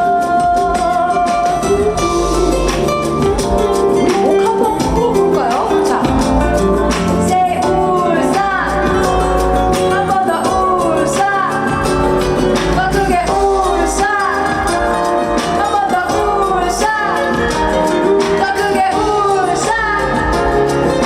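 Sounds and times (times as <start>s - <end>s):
live band over loudspeakers: 0.0s - 21.0s
person singing: 0.0s - 21.0s.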